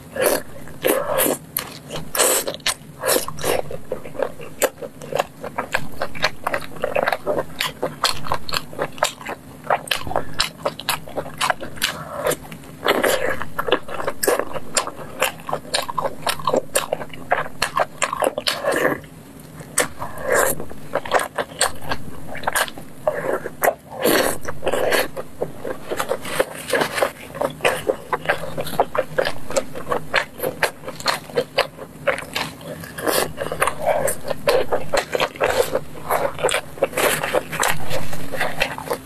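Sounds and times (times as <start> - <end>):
biting and chewing food: 0.0 - 39.0.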